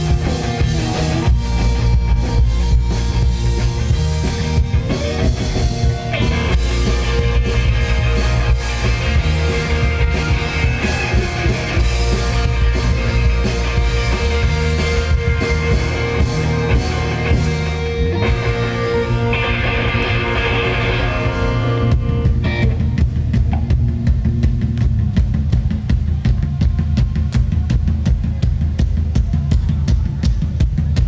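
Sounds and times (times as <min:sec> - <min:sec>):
electric guitar: 0:00.0 - 0:25.2
bass guitar: 0:00.0 - 0:31.0
drum kit: 0:00.0 - 0:31.0.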